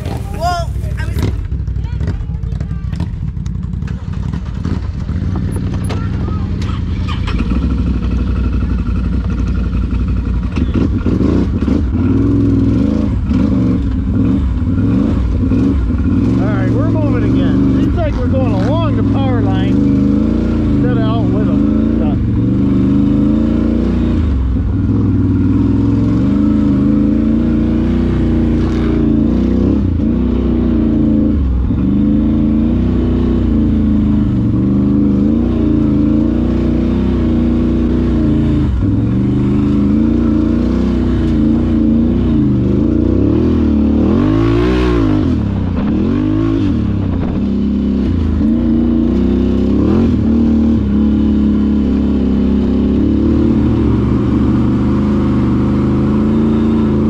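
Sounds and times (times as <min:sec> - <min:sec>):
atv engine revving under load: 0:00.0 - 0:57.0.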